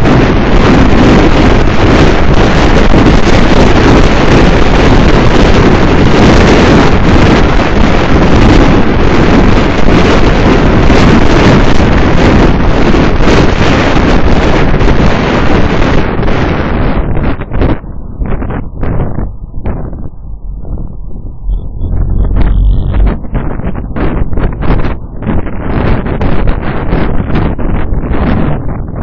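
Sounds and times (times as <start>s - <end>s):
car running noise: 0.0s - 29.0s
wind buffeting microphone: 0.0s - 29.0s.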